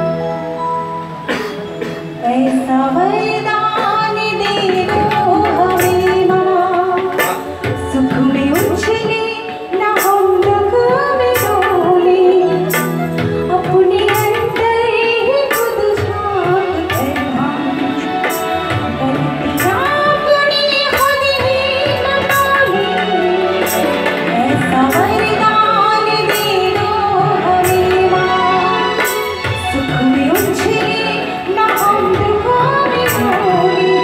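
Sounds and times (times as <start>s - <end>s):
hand drums playing: 0.8s - 34.0s
woman singing devotional song: 2.1s - 34.0s.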